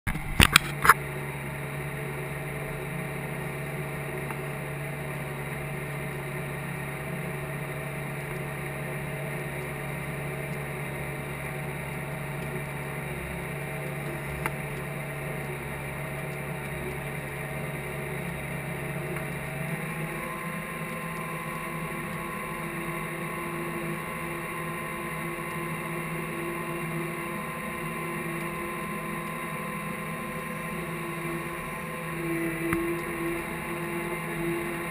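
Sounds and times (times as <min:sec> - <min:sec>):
tractor diesel engine droning: 0:00.1 - 0:34.9.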